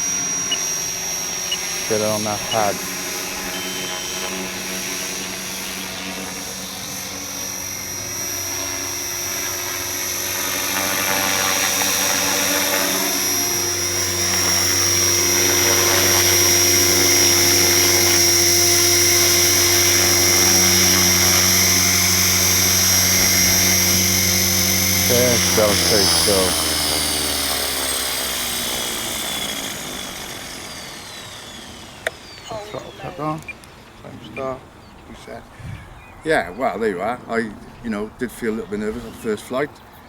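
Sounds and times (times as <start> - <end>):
rc helicopter rotor whine: 0.0 - 40.0.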